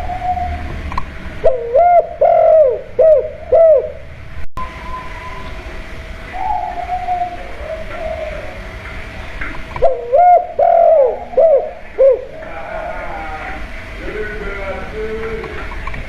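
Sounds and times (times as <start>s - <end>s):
dove cooing: 0.0s - 15.8s.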